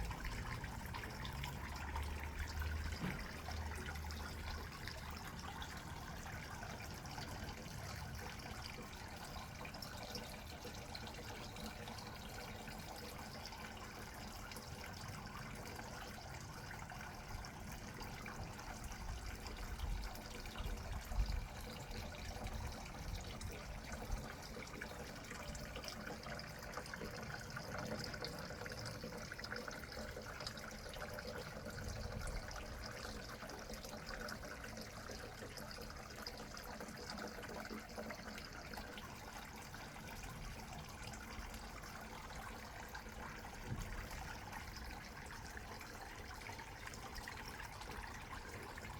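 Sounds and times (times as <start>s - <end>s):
water trickling: 0.0s - 48.9s.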